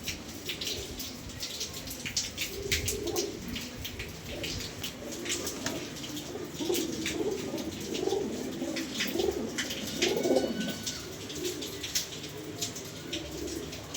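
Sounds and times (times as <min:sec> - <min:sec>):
pigeons cooing: 0:00.0 - 0:13.9.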